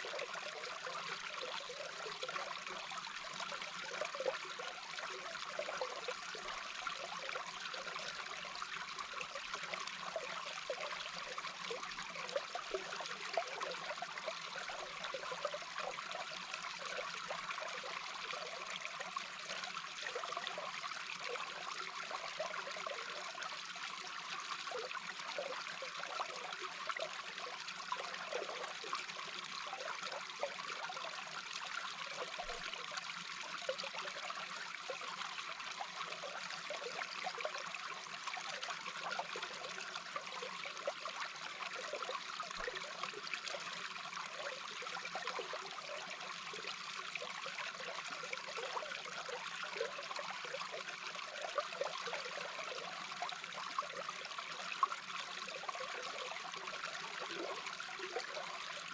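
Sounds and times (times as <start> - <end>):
underwater rush of flowing water: 0.0 - 58.9.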